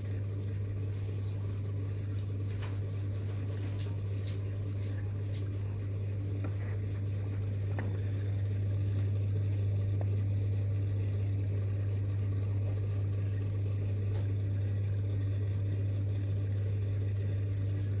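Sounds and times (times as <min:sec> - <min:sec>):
aquarium pump humming: 0:00.0 - 0:18.0.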